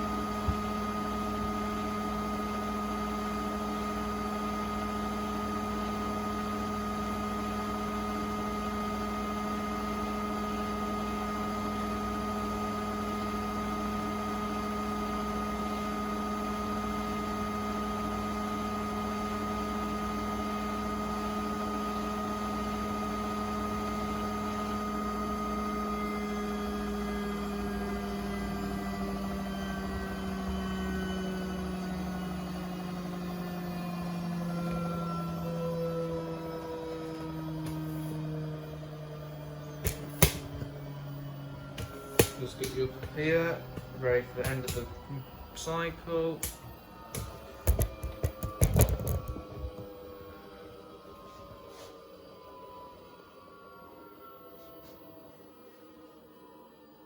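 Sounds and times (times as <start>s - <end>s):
washing machine spinning: 0.0s - 54.6s.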